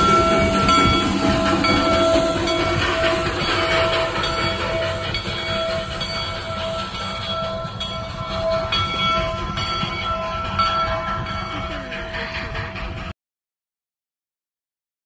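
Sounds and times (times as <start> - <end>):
locomotive bell ringing: 0.0 - 13.1
steam locomotive rumbling: 0.0 - 13.1.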